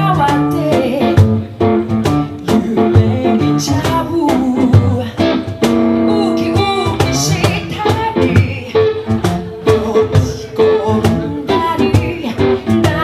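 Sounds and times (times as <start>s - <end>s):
woman singing: 0.0s - 1.5s, 2.4s - 13.0s
electric guitar playing: 0.0s - 13.0s.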